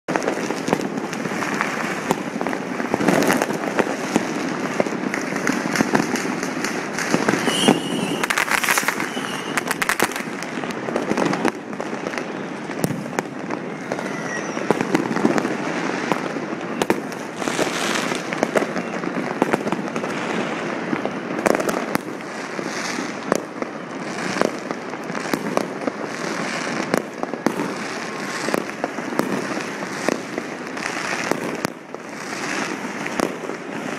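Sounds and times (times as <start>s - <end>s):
fireworks and firecrackers banging: 0.1s - 33.9s.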